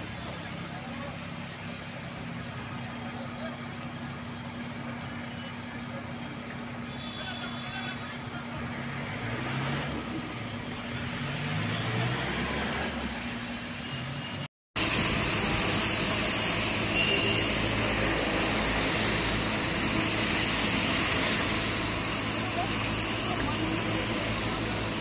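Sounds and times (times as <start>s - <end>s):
truck engine running: 0.0s - 11.8s, 13.0s - 25.0s.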